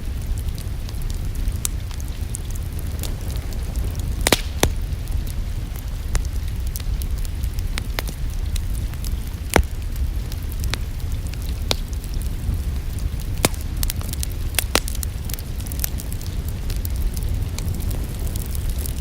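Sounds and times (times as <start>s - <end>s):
faint rain patter: 0.0s - 19.0s
wood fire crackling: 0.0s - 19.0s.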